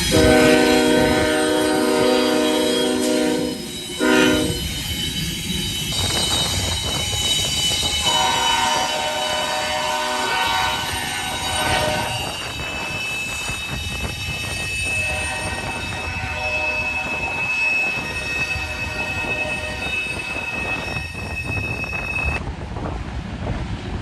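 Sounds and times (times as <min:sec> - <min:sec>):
train wheels squealing on rails: 0:00.0 - 0:22.4
rumble of train cars: 0:00.0 - 0:24.0
wind buffeting microphone: 0:00.0 - 0:24.0.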